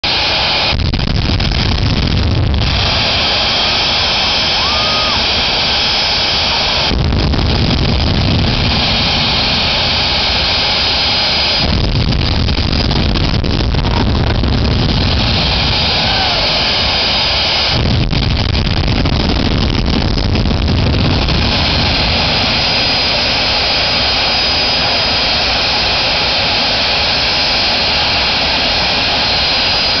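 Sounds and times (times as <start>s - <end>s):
jet engine whine: 0.0s - 30.0s.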